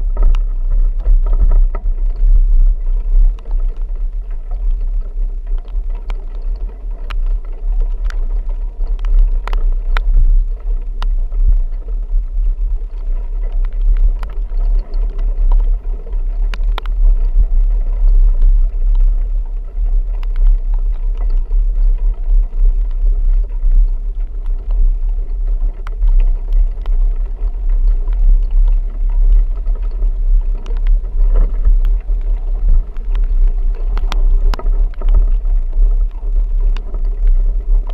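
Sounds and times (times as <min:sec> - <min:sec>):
sharp ticks and knocks: 0:00.0 - 0:37.9
vehicle driving rumble: 0:00.0 - 0:37.9.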